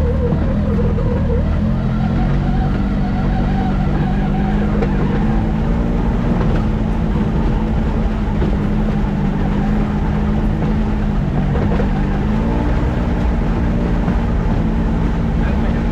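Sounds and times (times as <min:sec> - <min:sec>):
three-cylinder engine running: 0:00.0 - 0:15.9.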